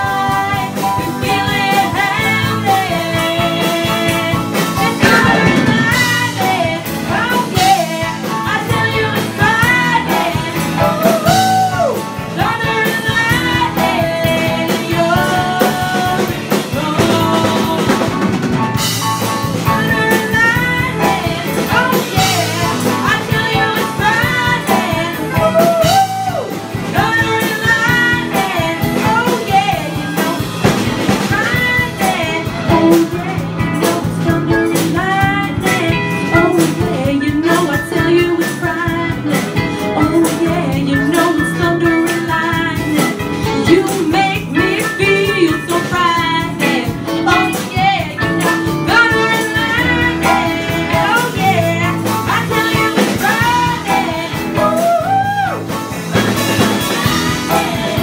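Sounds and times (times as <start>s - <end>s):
women singing: 0.0s - 18.5s, 19.6s - 58.0s
pop-rock band playing: 0.0s - 58.0s.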